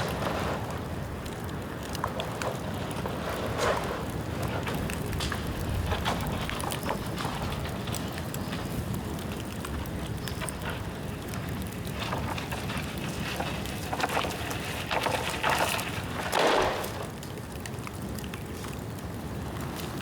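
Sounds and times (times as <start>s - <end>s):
bonfire crackling and popping: 0.0s - 20.0s.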